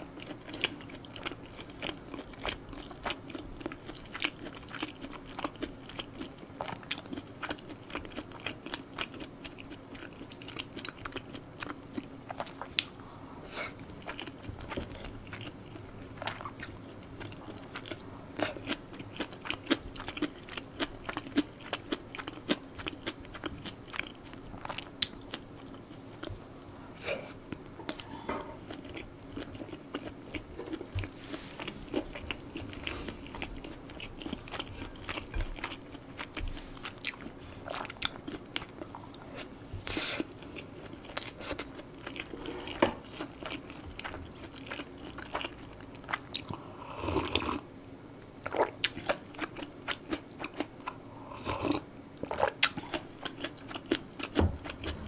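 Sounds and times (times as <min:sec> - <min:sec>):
food chewing: 0:00.0 - 0:13.1, 0:13.7 - 0:26.8, 0:27.4 - 0:47.6, 0:48.4 - 0:55.0.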